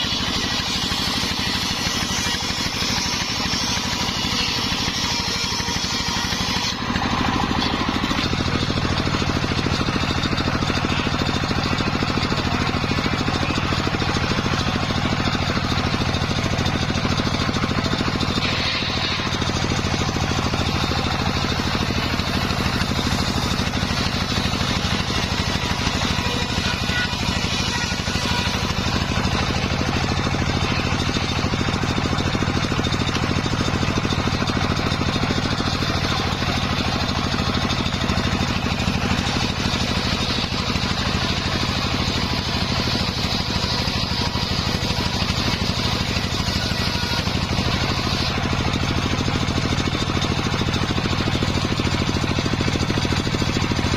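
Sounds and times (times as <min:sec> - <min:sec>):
sawmill engine drone: 0:00.0 - 0:53.9.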